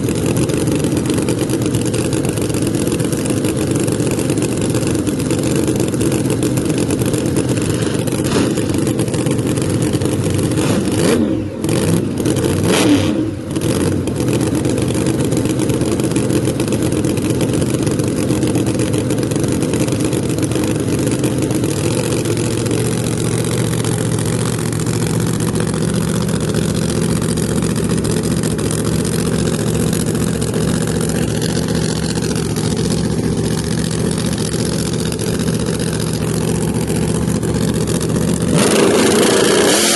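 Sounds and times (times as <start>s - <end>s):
drag car engine idling and revving: 0.0s - 39.9s.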